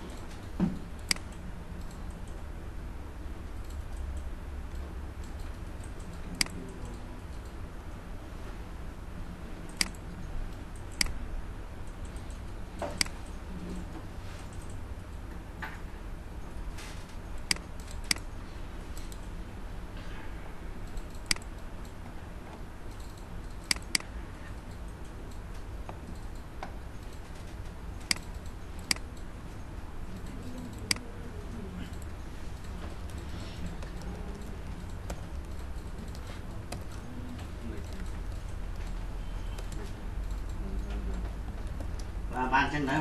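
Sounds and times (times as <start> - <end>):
computer mouse clicking: 0.0 - 2.5, 3.6 - 7.7, 9.6 - 11.2, 11.8 - 15.9, 17.0 - 19.4, 20.8 - 43.0
steady low hum: 0.0 - 43.0.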